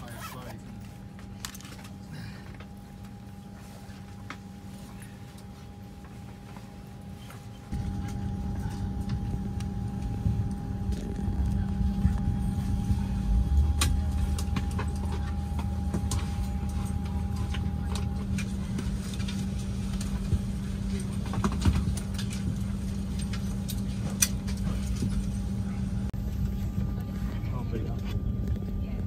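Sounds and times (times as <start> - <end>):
aircraft cabin hum: 0.5 - 29.0.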